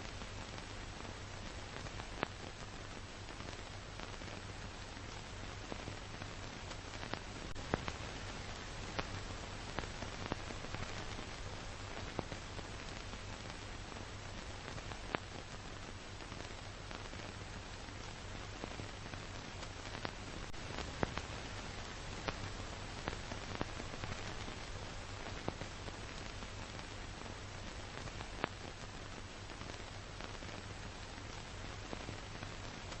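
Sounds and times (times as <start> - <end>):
film surface hiss: 0.0 - 33.0.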